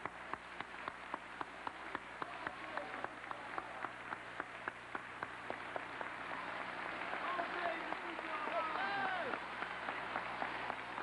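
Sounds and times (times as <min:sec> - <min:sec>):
audience applauding: 0:00.0 - 0:11.0
steady nearby hand clapping: 0:00.0 - 0:11.0.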